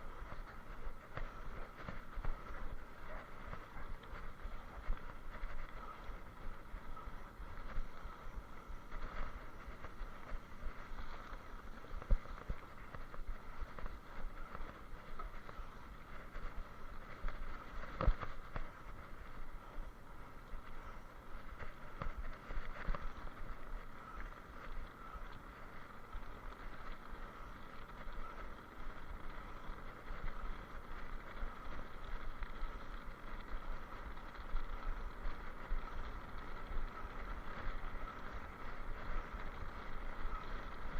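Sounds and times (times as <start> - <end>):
constant whir: 0.0 - 40.9
rolling noise: 0.0 - 40.9.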